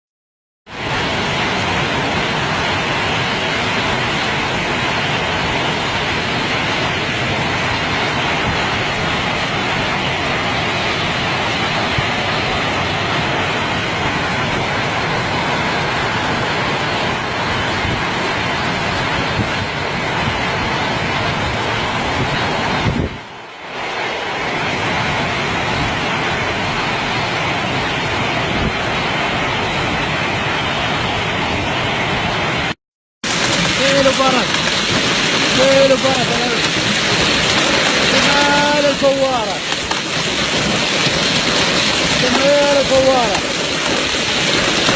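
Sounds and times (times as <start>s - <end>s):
heavy rain pouring: 0.7s - 44.9s.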